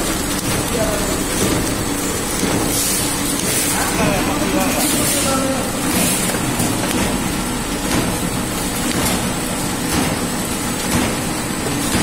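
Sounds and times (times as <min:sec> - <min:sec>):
packaging machine running: 0:00.0 - 0:12.0.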